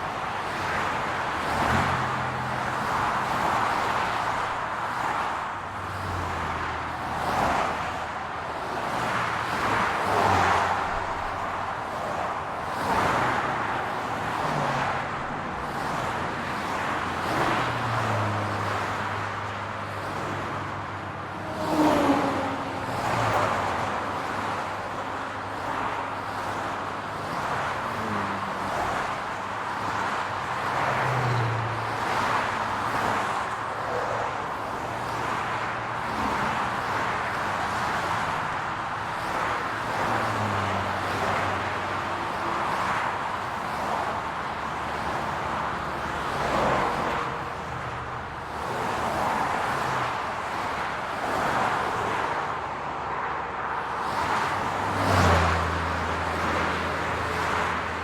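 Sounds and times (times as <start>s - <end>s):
car engines: 0.0s - 58.0s
cars passing: 0.0s - 58.0s.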